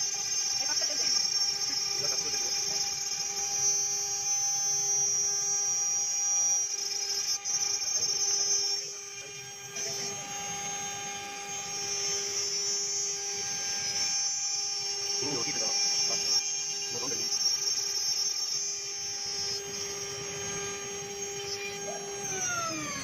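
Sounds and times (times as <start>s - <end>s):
engraving machine spindle whining: 0.0s - 23.0s.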